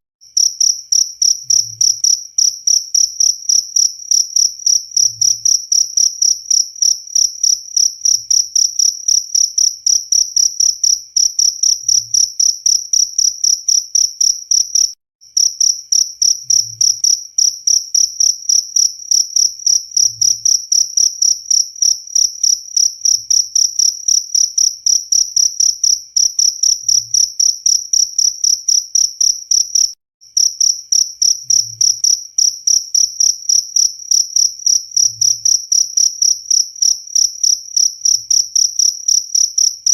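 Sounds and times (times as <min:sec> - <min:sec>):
cricket chirping: 0:00.3 - 0:39.9.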